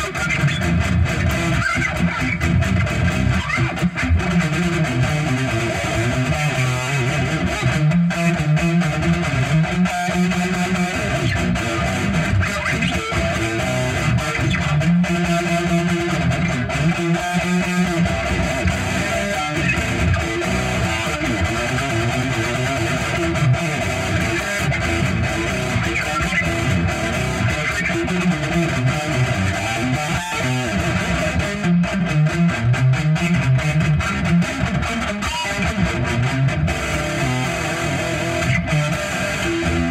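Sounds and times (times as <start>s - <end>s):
electric guitar instrumental: 0.0s - 39.9s.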